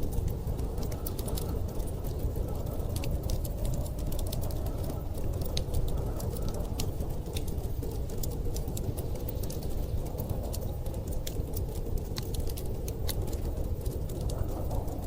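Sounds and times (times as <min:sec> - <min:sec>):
blizzard wind rumbling: 0:00.0 - 0:15.0
wood fire crackling and popping: 0:00.0 - 0:15.0.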